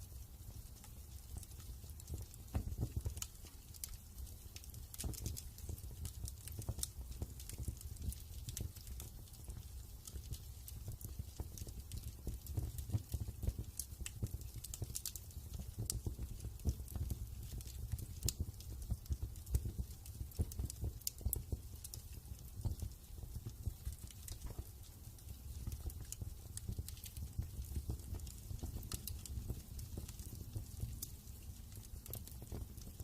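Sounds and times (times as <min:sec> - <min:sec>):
low fire rumble: 0:00.0 - 0:33.0
wood fire crackling: 0:00.0 - 0:33.0.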